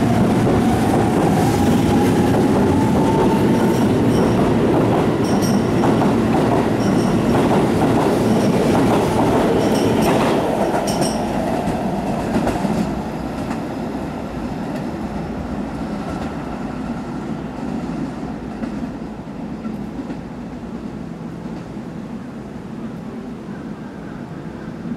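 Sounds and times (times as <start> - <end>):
train running past: 0.0 - 24.9.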